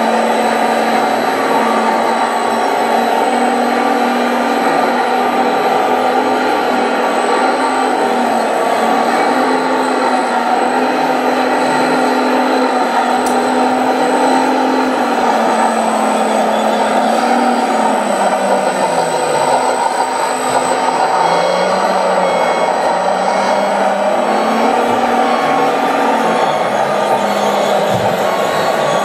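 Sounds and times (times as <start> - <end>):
toy bulldozer diesel engine sound: 0.0 - 29.0.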